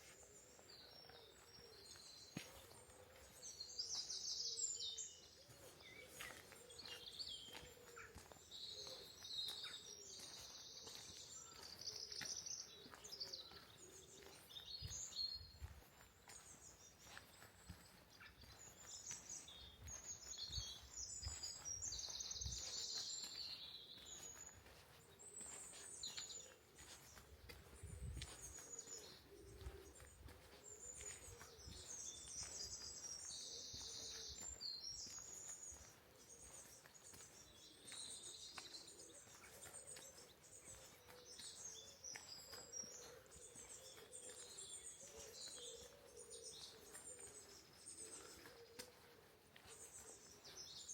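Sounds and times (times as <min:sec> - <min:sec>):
songbirds singing and chirping: 0:00.0 - 0:50.9.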